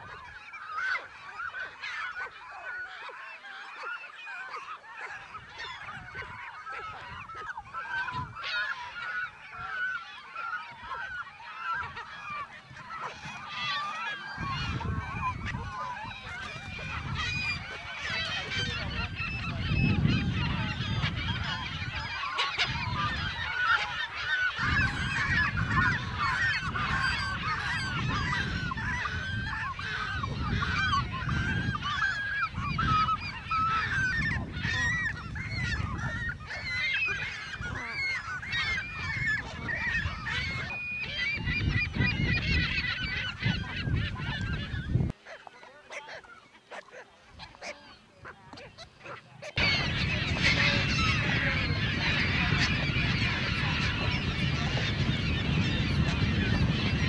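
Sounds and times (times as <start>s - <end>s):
waterbirds squawking: 0.0s - 57.0s.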